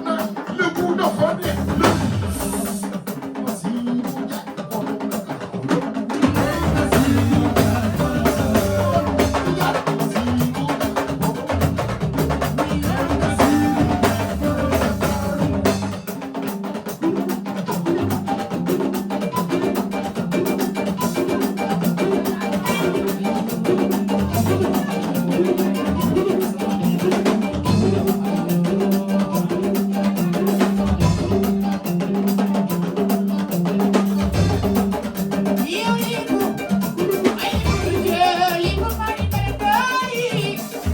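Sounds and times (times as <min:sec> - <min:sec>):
dance song with busy drum percussion: 0:00.0 - 0:40.9.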